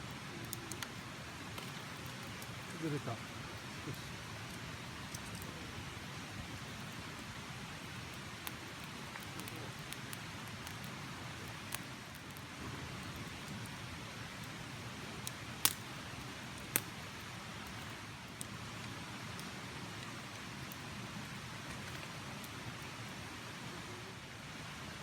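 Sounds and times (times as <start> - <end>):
wood fire crackling and popping: 0.0 - 23.5.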